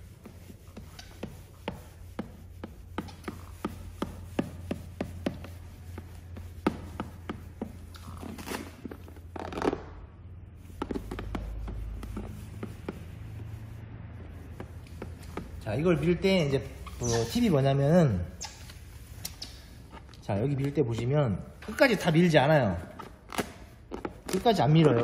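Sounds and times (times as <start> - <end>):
plastic squeegee scraping film: 0.0 - 25.0.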